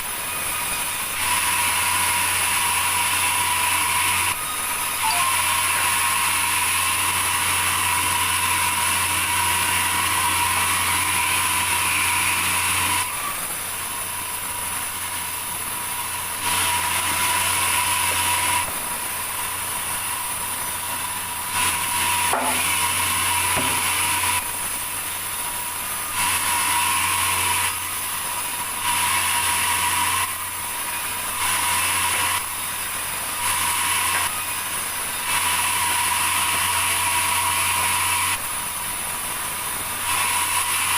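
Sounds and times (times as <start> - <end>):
sawmill machinery hum and whine: 0.0 - 40.9.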